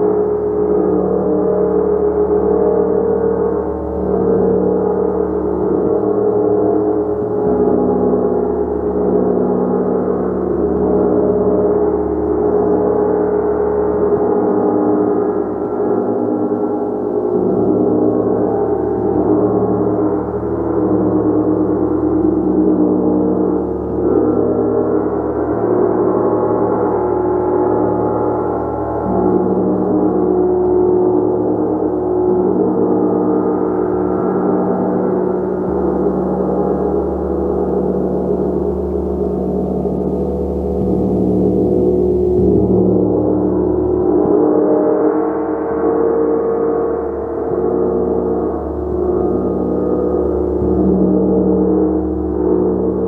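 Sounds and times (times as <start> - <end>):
sustained gong tones: 0.0 - 53.0.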